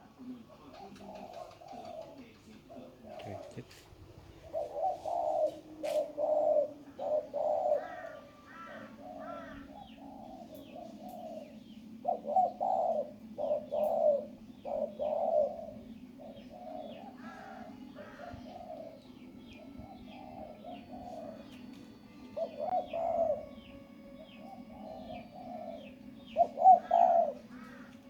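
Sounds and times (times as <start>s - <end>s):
dove cooing: 0.0s - 28.0s
steady low hum: 2.6s - 28.0s
bird chirping: 4.3s - 28.0s.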